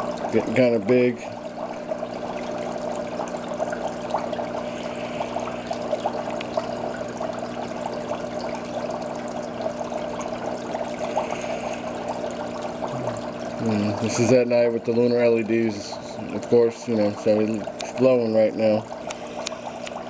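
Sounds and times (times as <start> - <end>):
running water trickling and splashing: 0.0 - 20.0.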